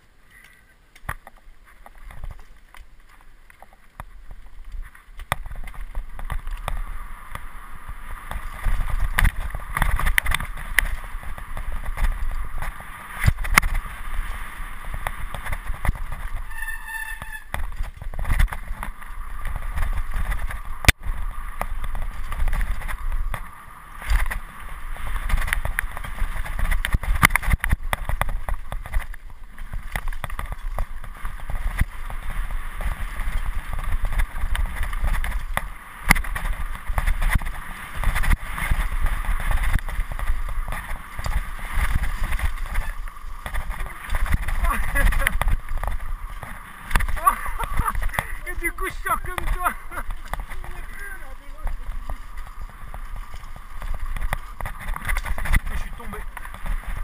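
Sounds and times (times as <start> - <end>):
wind and tyres rumbling: 0.0 - 57.0
bike rattling over rocks: 1.0 - 57.0.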